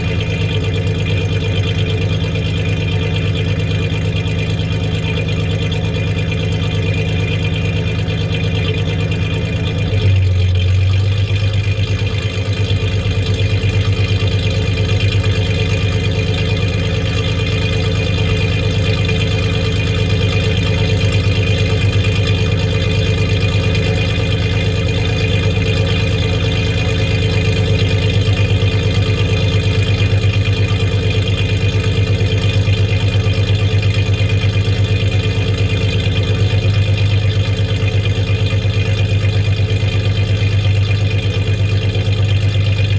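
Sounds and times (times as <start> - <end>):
truck engine idling with misfire: 0.0 - 42.9.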